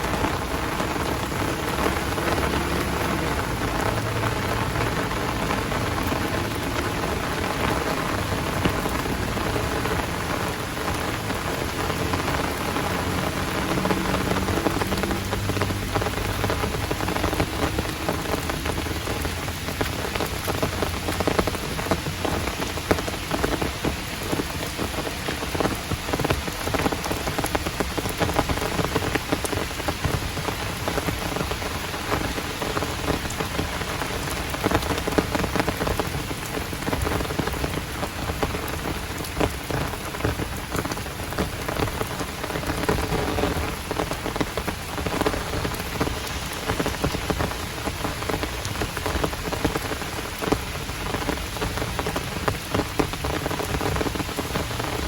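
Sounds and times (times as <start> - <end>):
heavy rain pouring: 0.0 - 55.0
raindrops pattering close by: 0.0 - 55.0.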